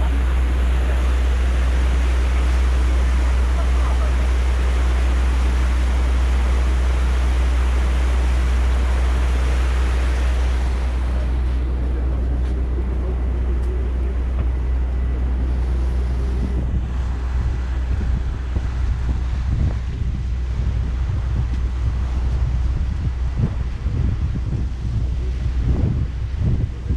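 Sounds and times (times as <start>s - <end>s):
ferry engine droning: 0.0s - 26.9s
water rushing past hull: 0.0s - 26.9s
wind on microphone: 0.0s - 26.9s.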